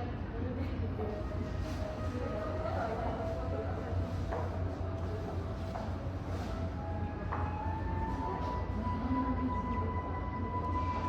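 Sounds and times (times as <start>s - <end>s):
soft sustained background music: 1.1s - 11.0s.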